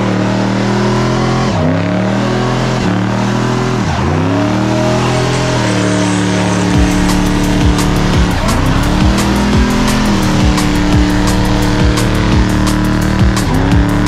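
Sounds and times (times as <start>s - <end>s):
car engine revving high: 0.0s - 14.0s
spinning tyres hissing: 1.5s - 14.0s.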